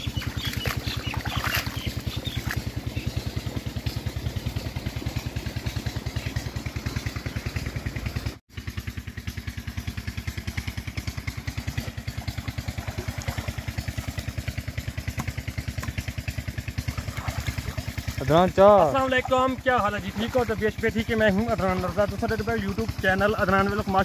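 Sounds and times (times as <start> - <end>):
pump engine thumping: 0.0 - 24.0.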